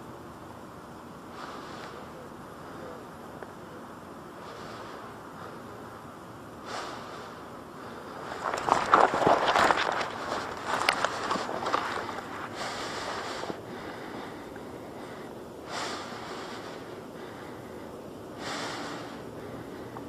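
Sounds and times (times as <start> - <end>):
faint background hiss: 0.0 - 20.0
slow hissy breathing: 0.7 - 20.0.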